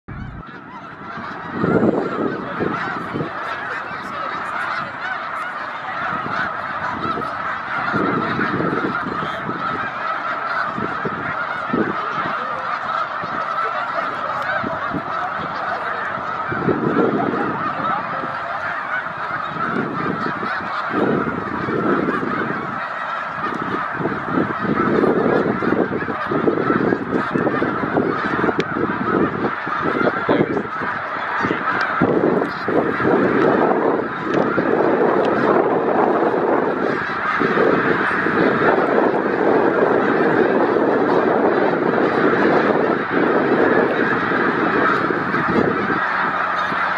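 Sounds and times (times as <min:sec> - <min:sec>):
geese honking in chorus: 0:00.1 - 0:46.9.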